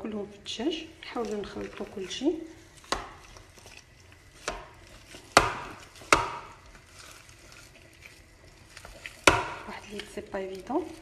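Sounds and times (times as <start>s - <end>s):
hand mixing meat in plastic bowl: 0.0s - 11.0s.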